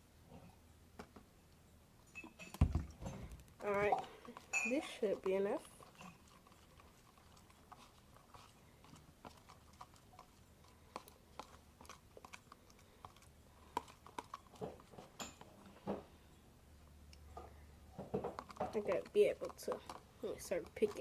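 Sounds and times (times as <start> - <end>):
slime squelching while stirred: 2.6 - 15.9, 17.1 - 21.0.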